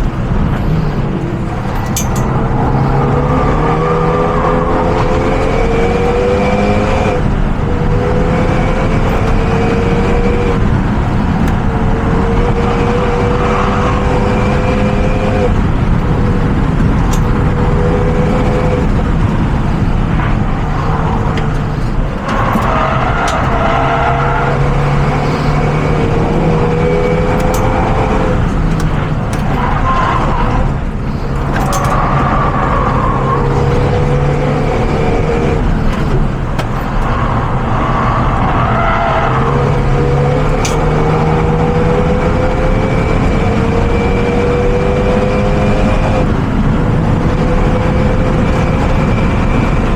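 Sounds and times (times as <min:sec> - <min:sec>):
car engine climbing through gears: 0:00.0 - 0:49.9
road noise: 0:00.0 - 0:49.9
wind noise: 0:00.0 - 0:49.9.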